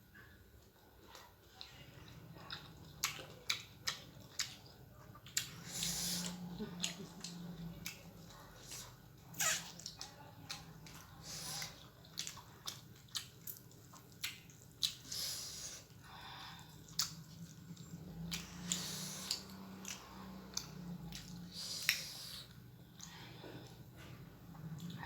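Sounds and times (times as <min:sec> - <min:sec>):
chewing and biting fruit: 0:01.0 - 0:16.0, 0:16.6 - 0:25.0.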